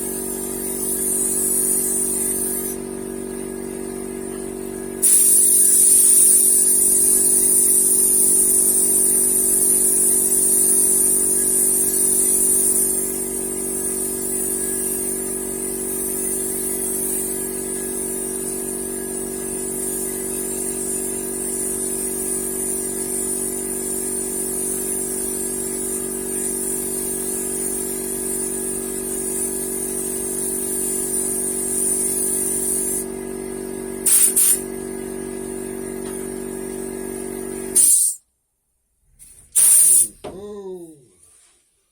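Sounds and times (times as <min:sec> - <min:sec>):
steady motor hum: 0:00.0 - 0:37.8
paint spray gun hissing: 0:00.0 - 0:38.2, 0:39.5 - 0:40.3.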